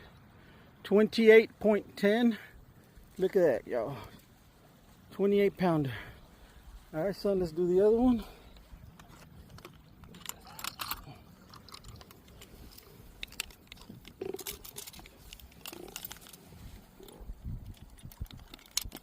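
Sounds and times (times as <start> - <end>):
handling clicks and rustles: 1.0 - 19.0.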